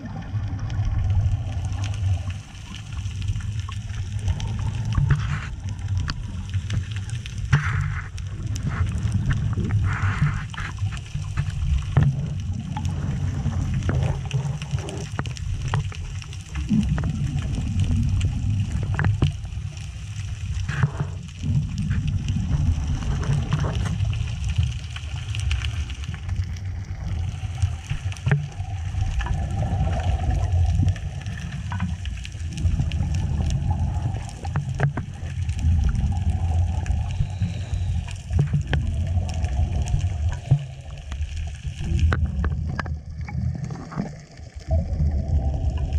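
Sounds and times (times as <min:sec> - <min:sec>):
regulator bubbles: 0:00.0 - 0:45.9
underwater water rumble: 0:00.0 - 0:45.9.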